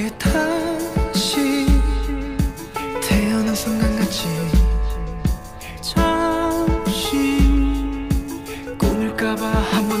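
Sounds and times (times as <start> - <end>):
soft pop music: 0.0 - 10.0.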